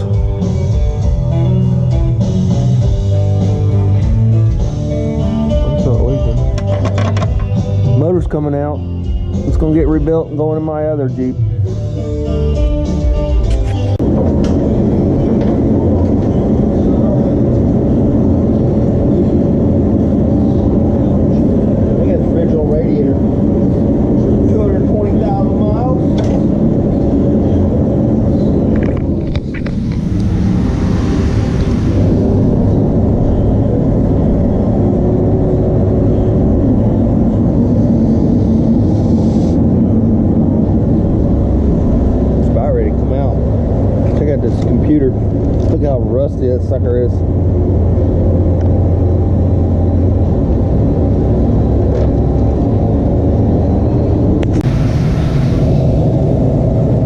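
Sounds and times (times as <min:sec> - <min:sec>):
faint tonal hum: 0:00.0 - 0:57.0
loud mechanical rumble: 0:00.0 - 0:57.0.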